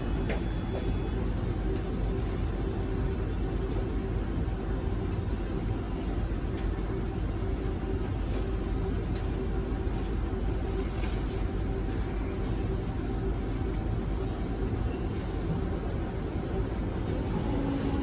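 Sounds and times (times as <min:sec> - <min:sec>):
faint steady whine: 0:00.0 - 0:18.0
train car hum and hiss: 0:00.0 - 0:18.0.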